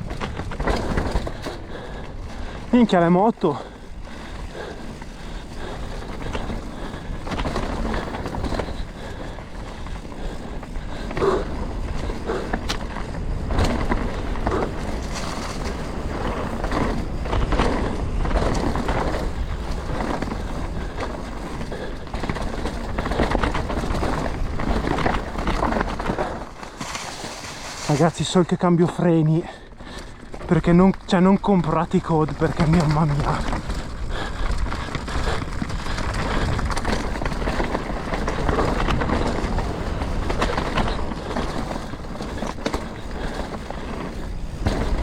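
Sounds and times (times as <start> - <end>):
bike knocks and rattles: 0.0 - 28.1, 29.5 - 45.0
bike tyres rolling over rocks: 0.0 - 45.0.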